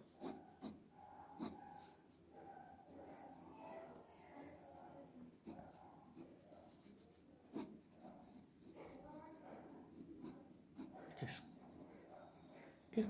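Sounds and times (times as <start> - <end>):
pencil scratching on paper: 0.0 - 2.1, 2.8 - 13.0.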